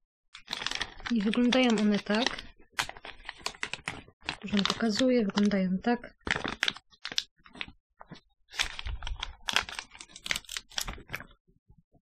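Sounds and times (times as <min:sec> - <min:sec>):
plastic bag crinkling: 0:00.4 - 0:11.4.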